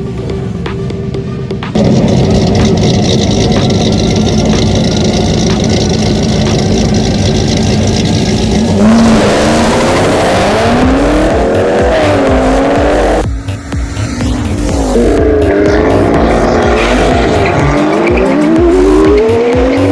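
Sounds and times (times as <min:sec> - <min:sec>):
car engine accelerating hard: 0:01.7 - 0:19.9.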